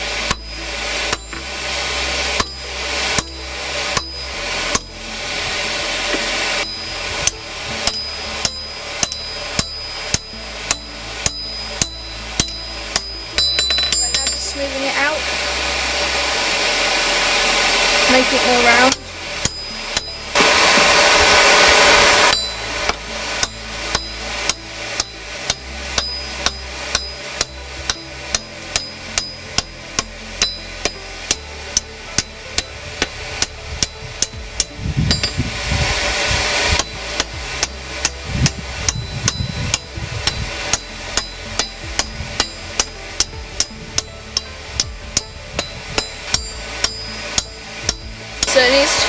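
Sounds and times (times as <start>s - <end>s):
hammer striking steel on anvil: 0.0s - 49.0s
loud rushing noise: 0.0s - 49.0s.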